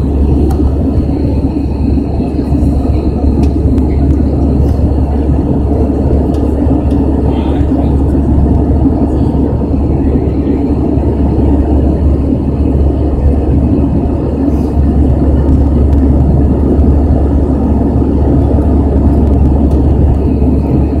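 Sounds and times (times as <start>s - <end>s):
jet engine deep rumble in cabin: 0.0s - 21.0s.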